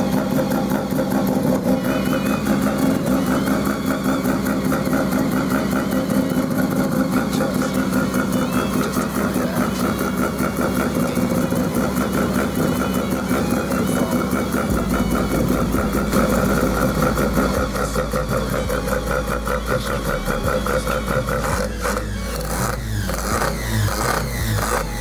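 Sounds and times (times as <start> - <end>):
rotary engine idling: 0.0 - 25.0.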